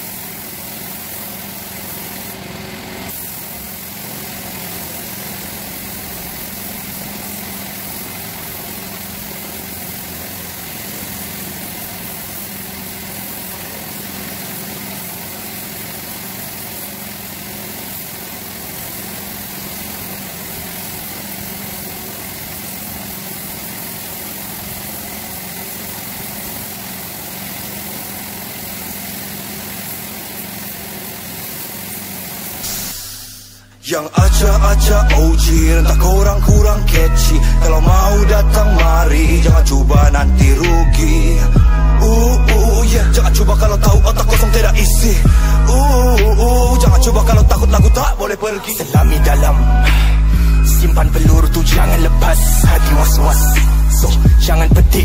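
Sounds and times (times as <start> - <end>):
motor droning: 0.0 - 55.0
spray gun hissing: 0.0 - 55.0.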